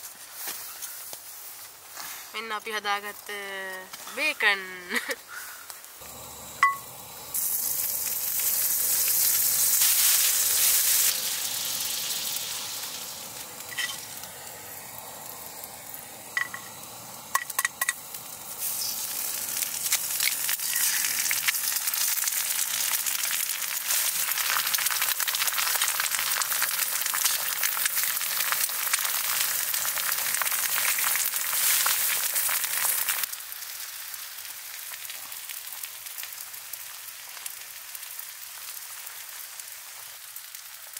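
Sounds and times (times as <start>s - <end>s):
bacon sizzling in a frying pan: 2.4s - 40.9s.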